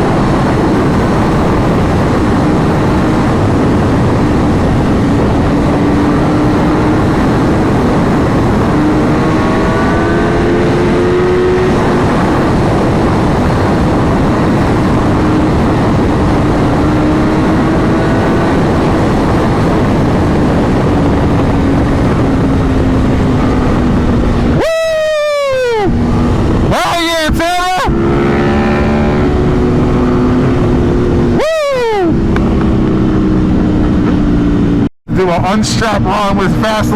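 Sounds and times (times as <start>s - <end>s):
motorcycle engine: 0.0s - 36.9s
wind and road rush: 0.0s - 36.9s.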